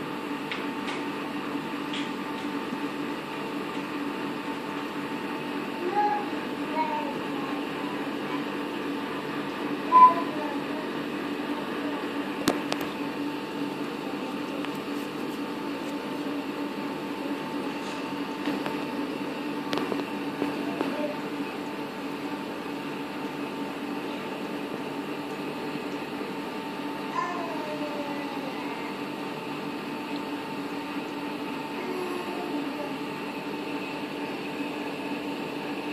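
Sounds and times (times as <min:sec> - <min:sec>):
aquarium pumps humming: 0:00.0 - 0:35.9.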